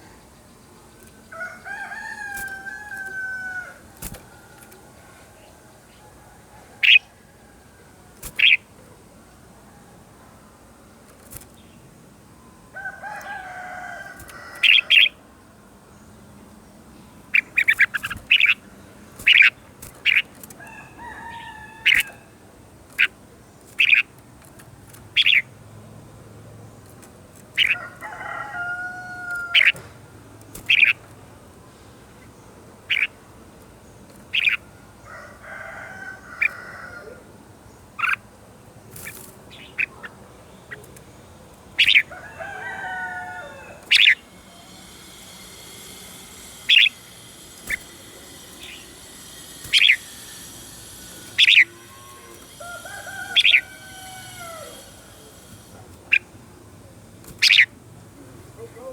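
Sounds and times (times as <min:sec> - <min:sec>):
bird song with sharp notes: 0:00.0 - 0:09.4, 0:11.1 - 0:25.6, 0:26.6 - 0:35.1, 0:37.6 - 0:58.9.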